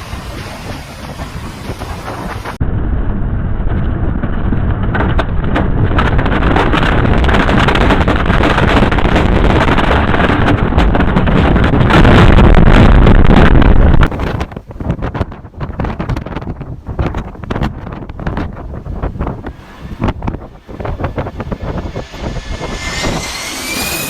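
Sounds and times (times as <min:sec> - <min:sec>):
wind buffeting the microphone: 0:00.0 - 0:24.0.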